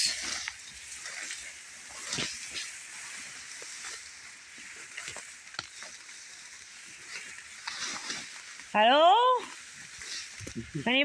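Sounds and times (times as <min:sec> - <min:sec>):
dry stalks rustling: 0:00.0 - 0:11.0
footsteps through wheat: 0:00.0 - 0:11.0.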